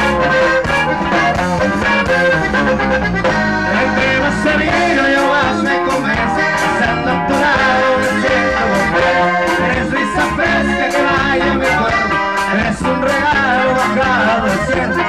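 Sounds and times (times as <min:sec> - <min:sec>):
accordion: 0:00.0 - 0:15.0
electric bass: 0:00.0 - 0:15.0
guitar: 0:00.0 - 0:15.0
steady beat: 0:00.0 - 0:15.0.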